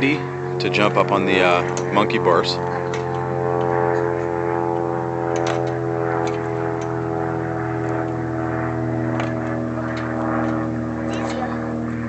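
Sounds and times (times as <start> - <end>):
steady motor drone: 0.0 - 12.0.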